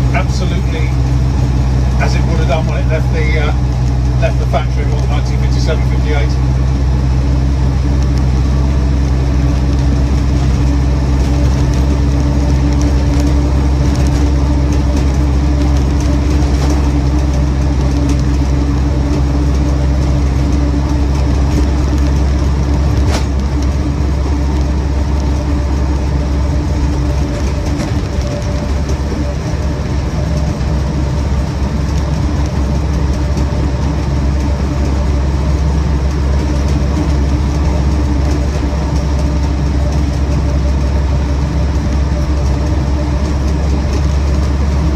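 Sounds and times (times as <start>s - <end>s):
car engine running: 0.0s - 44.9s
road and drivetrain noise: 0.0s - 44.9s.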